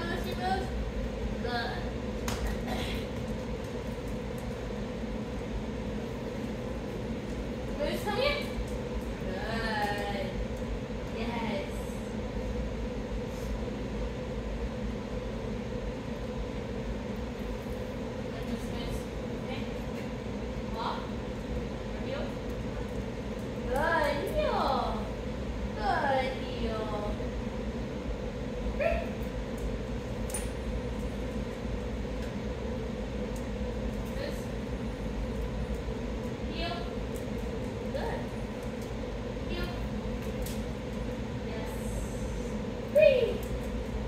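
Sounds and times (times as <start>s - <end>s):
low room rumble and hum: 0.0s - 44.0s.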